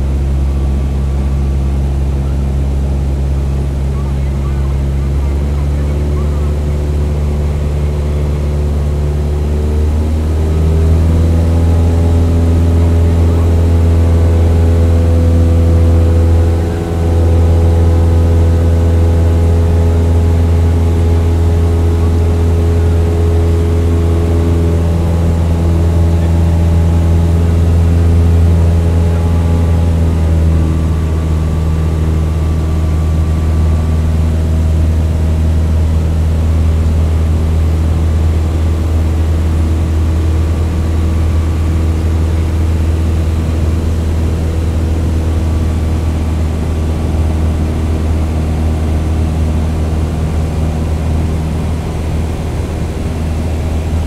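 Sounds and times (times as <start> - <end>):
propeller aircraft engine: 0.0 - 54.0.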